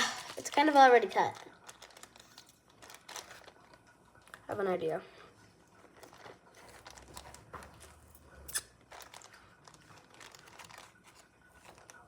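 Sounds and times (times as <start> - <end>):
plastic bag rustling and clicking: 0.0 - 4.6, 5.8 - 8.0, 8.8 - 12.0.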